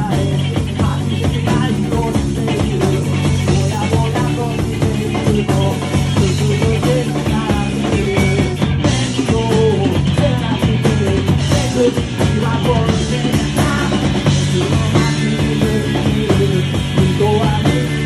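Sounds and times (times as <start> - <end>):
amplified guitar: 0.0 - 18.0
live punk rock band: 0.0 - 18.0
man singing into microphone: 0.0 - 18.0.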